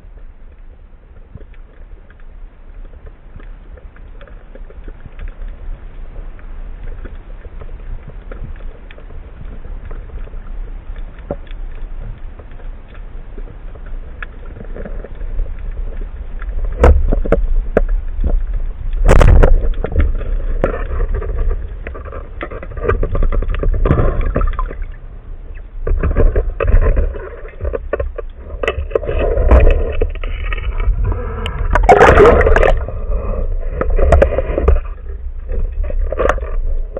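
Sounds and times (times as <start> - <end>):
faint ticks: 0.0 - 31.8
muffled underwater rumble: 0.0 - 36.9
water splashing: 6.9 - 36.9.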